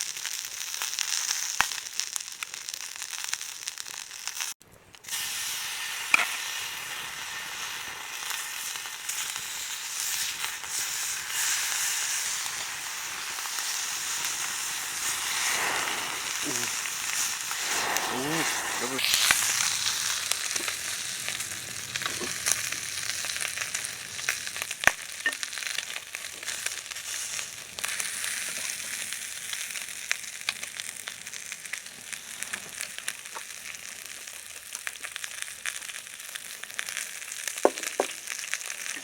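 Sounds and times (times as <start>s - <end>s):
fire pops and crackles: 0.0s - 39.0s
meat sizzling over fire: 0.0s - 39.0s.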